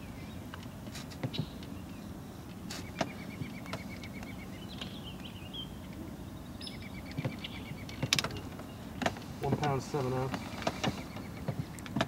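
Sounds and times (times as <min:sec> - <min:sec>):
bird chirps: 0:01.2 - 0:09.2, 0:09.8 - 0:11.8.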